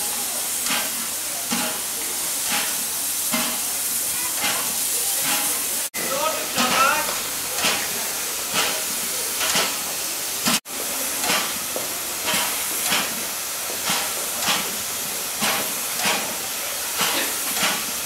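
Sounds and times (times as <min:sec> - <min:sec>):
steam hissing: 0:00.0 - 0:18.0
steam locomotive puffing: 0:00.0 - 0:18.0.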